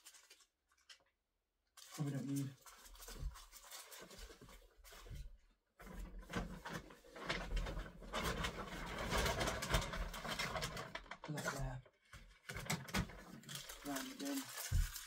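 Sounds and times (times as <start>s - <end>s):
packaging rustling and crinkling: 0.0s - 1.0s, 1.8s - 15.0s.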